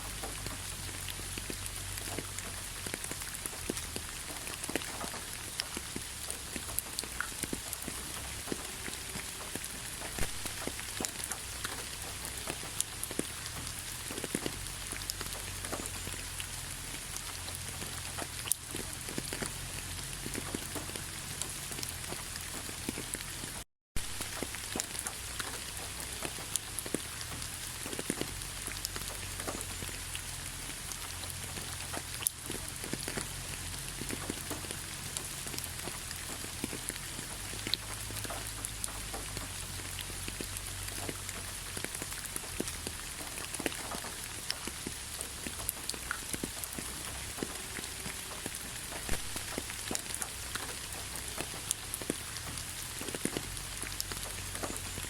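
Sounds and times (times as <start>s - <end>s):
raindrops ticking: 0.0s - 55.0s
steady rainfall: 0.0s - 55.0s.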